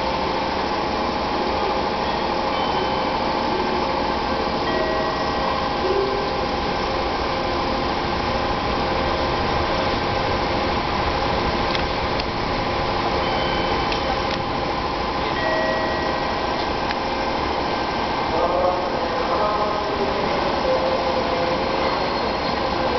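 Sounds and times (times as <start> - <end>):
electric train equipment humming: 0.0 - 22.9.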